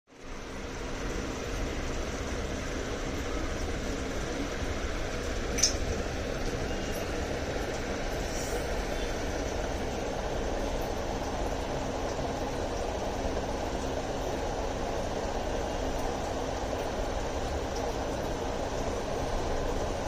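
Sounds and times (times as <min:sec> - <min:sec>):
aquarium equipment humming: 0:00.2 - 0:20.0.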